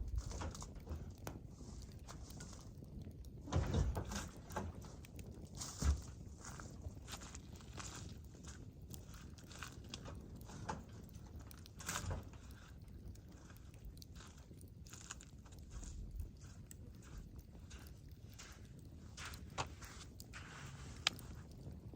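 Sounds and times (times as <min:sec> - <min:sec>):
campfire crackling: 0:00.0 - 0:21.9
cracks and pops: 0:00.0 - 0:21.9.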